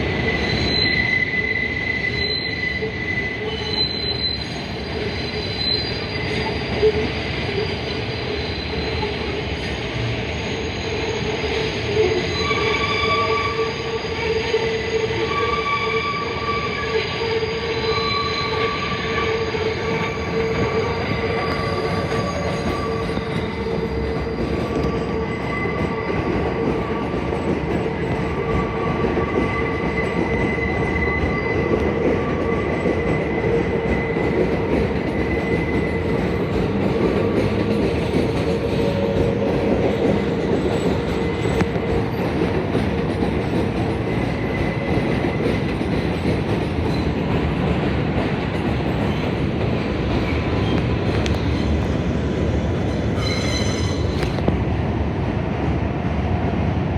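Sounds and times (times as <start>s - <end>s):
train wheels squealing: 0.0s - 54.5s
train rumble: 0.0s - 56.9s.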